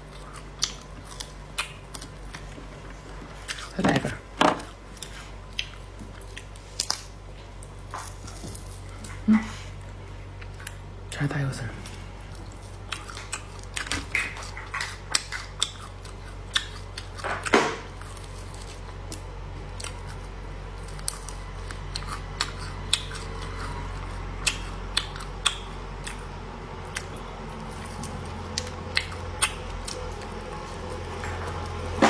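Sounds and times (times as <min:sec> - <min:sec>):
crunching of chewed bones: 0:00.0 - 0:32.0
low hum: 0:00.0 - 0:32.0.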